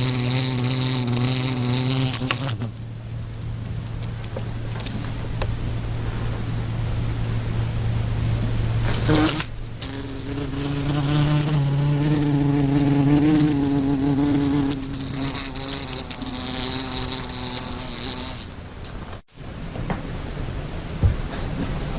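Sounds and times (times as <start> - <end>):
fly buzzing: 0.0 - 18.9.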